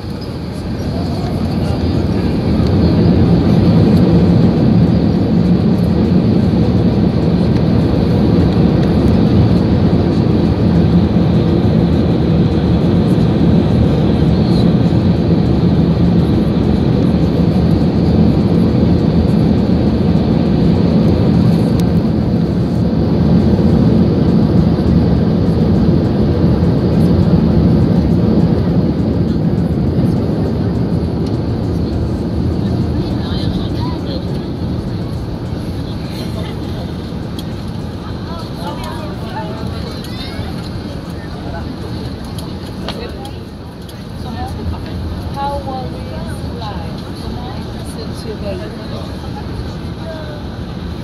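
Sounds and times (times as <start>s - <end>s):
aircraft engines roaring in cabin: 0.0s - 51.0s.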